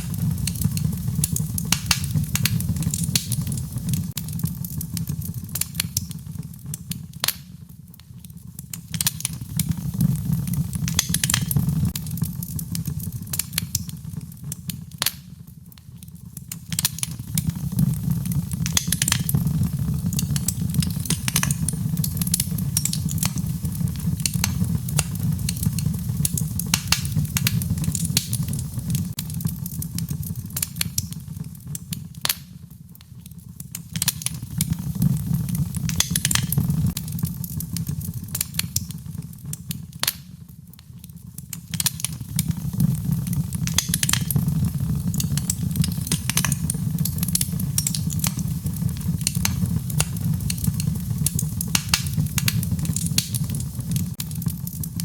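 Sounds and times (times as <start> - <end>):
low rumble of burning: 0.0 - 55.0
wood fire crackling and popping: 0.0 - 55.0.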